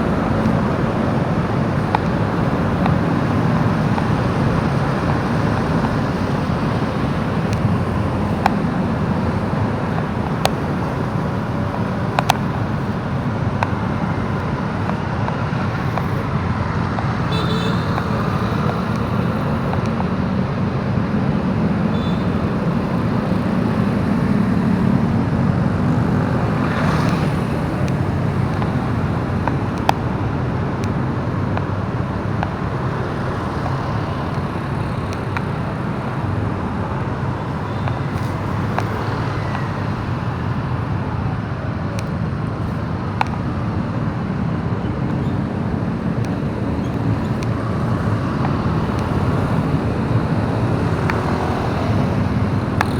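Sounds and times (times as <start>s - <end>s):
motorbike engine rumble: 0.0s - 52.9s
road noise: 0.0s - 52.9s.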